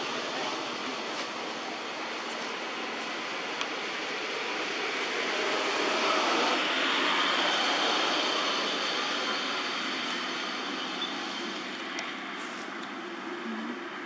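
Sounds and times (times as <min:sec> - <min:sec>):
steady outdoor rush: 0:00.0 - 0:14.0.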